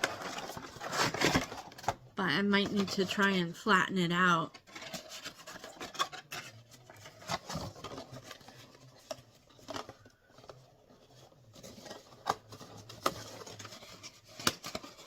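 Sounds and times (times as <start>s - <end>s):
cardboard box rustling: 0.0s - 2.0s, 4.6s - 15.0s.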